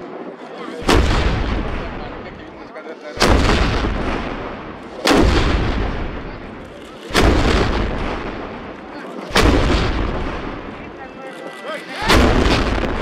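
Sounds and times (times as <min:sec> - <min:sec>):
cannon blasts with echo: 0:00.8 - 0:11.0, 0:12.0 - 0:13.0.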